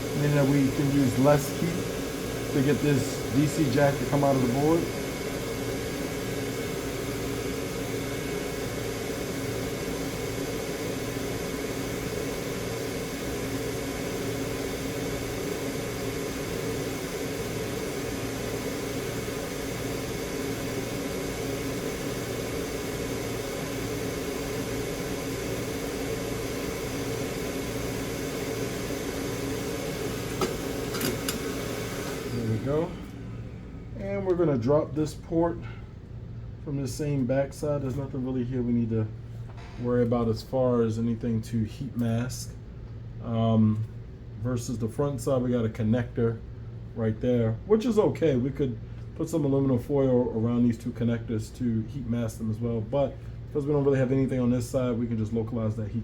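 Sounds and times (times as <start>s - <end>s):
extractor fan whirring: 0.0s - 56.0s
low steady hum: 0.0s - 56.0s.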